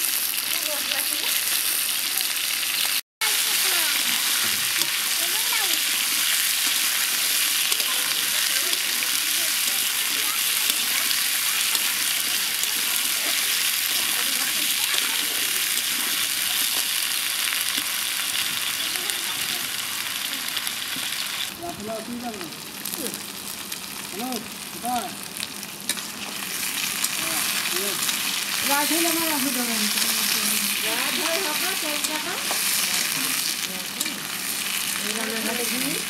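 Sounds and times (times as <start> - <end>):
food frying in hot oil: 0.0 - 36.0.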